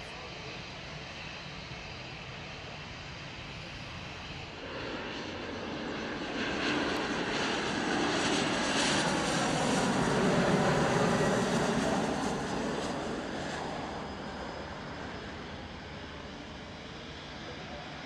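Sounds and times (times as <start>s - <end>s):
jet airliner passing: 0.1s - 18.0s.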